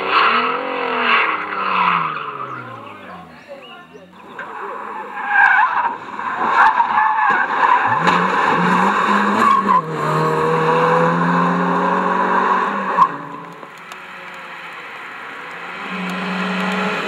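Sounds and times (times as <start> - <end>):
car engine revving: 0.0 - 3.4, 5.9 - 17.0
tyres skidding and squealing: 0.0 - 17.0.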